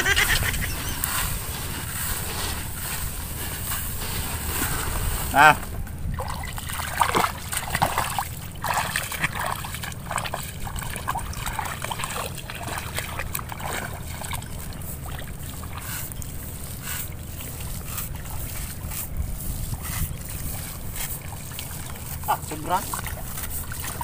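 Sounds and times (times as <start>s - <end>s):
steady low rumble: 0.0s - 24.0s
water sloshing and splashing: 0.0s - 24.0s.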